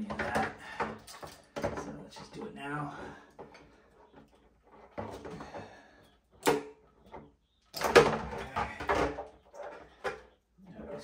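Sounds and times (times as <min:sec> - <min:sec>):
plastic connectors and wires rustling: 0:00.0 - 0:11.0.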